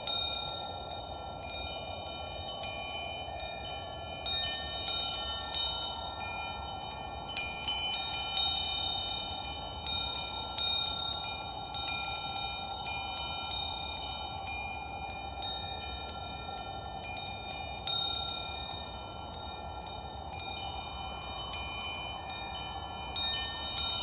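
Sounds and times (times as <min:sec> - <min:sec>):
wind chimes ringing: 0:00.0 - 0:24.0.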